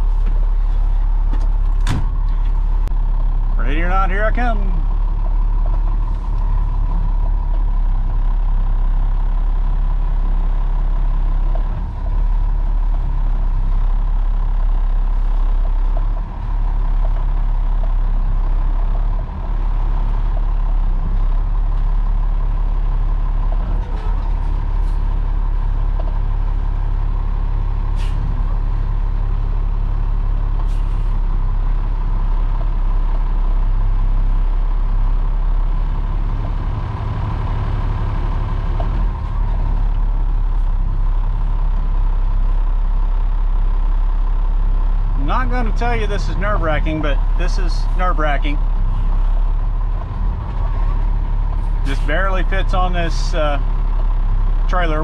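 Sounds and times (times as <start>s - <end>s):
diesel truck engine rumbling: 0.0s - 55.0s.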